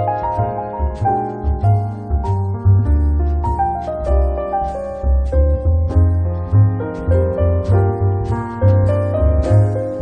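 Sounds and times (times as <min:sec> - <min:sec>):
piano melody over bass beat: 0:00.0 - 0:10.0.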